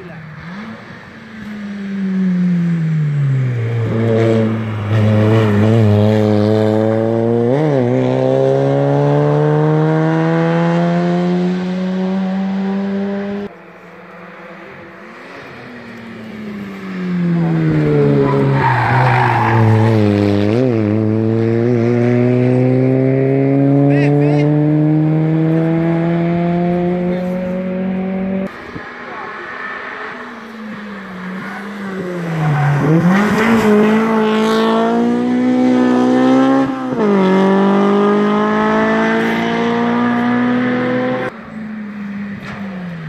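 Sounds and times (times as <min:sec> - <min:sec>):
race car engine revving: 0:00.0 - 0:43.0.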